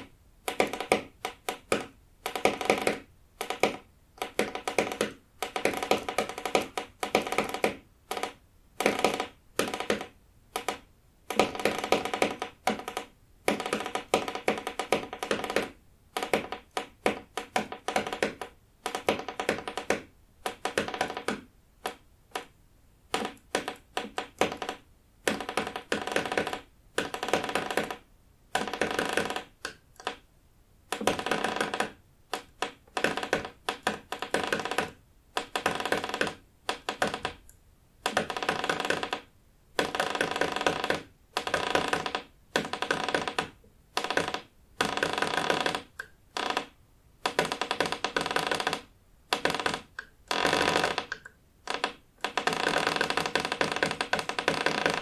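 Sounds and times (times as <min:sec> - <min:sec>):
wood creaking: 0:00.0 - 0:22.5, 0:23.1 - 0:28.0, 0:28.6 - 0:30.2, 0:30.9 - 0:55.0.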